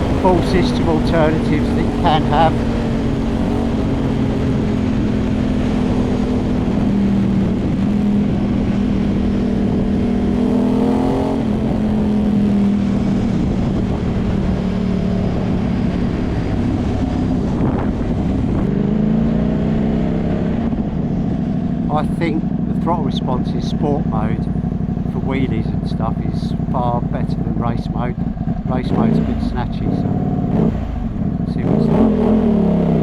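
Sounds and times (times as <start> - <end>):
motorcycle engine riding: 0.0 - 33.0.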